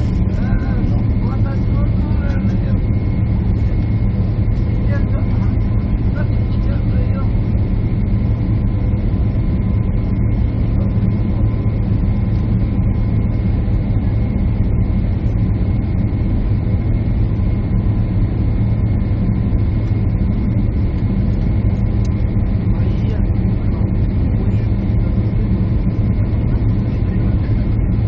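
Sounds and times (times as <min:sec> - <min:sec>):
airliner cabin engine drone: 0:00.0 - 0:28.0
faint steady whines: 0:00.0 - 0:28.0.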